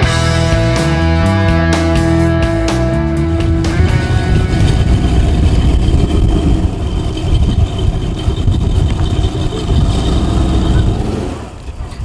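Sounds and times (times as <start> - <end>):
deep engine exhaust rumble: 0.0 - 12.0.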